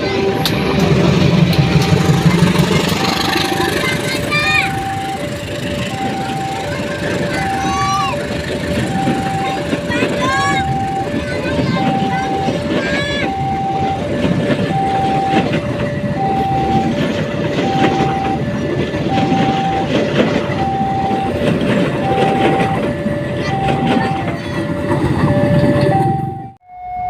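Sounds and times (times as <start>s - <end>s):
train wheels clattering over rails: 0.0s - 26.4s
two-tone level-crossing alarm: 0.1s - 27.0s.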